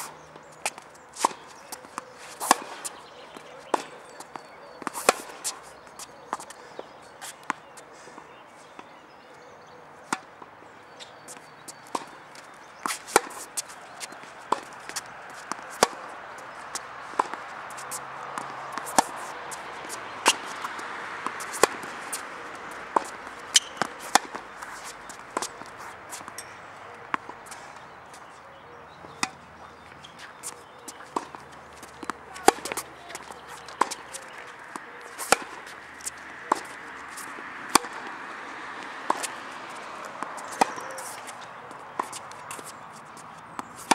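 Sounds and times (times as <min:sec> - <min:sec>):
tennis balls bouncing on court: 0:00.0 - 0:43.9
tennis balls struck by rackets: 0:00.0 - 0:43.9.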